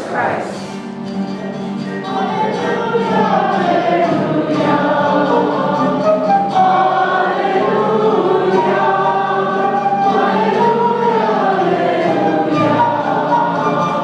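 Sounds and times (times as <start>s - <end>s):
church choir singing: 0.0s - 14.0s.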